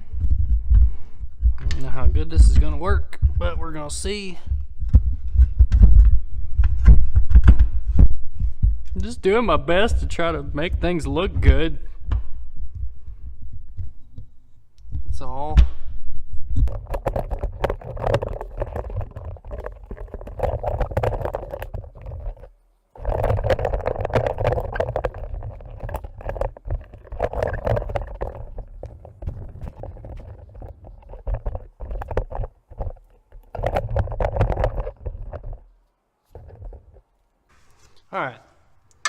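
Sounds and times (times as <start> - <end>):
sped-up clicks knocks and scraping: 0.0 - 15.4, 16.4 - 35.7.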